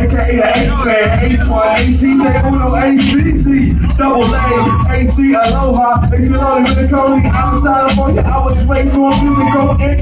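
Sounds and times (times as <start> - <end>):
rapping over bass-heavy beat: 0.0 - 10.0.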